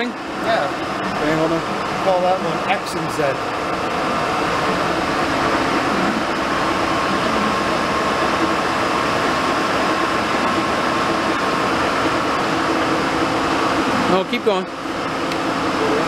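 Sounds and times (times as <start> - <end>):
lathe running with whine: 0.0 - 16.0.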